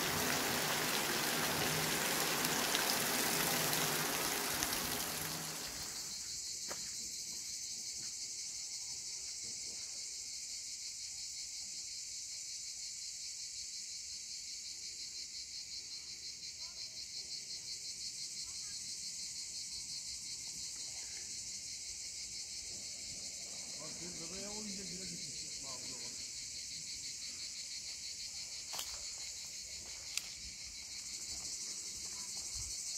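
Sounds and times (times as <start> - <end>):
cicadas singing: 0.0 - 32.9.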